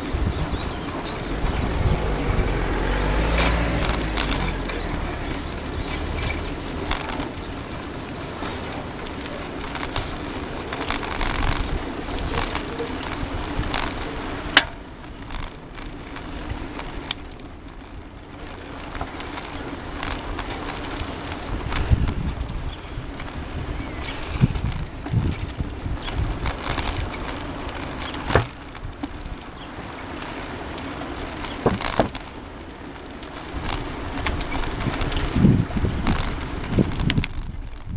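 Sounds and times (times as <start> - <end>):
wind buffeting microphone: 0.0 - 32.8, 33.4 - 37.9
bicycle frame rattle: 0.0 - 37.9
bicycle tyres rolling on pavement: 0.0 - 37.9.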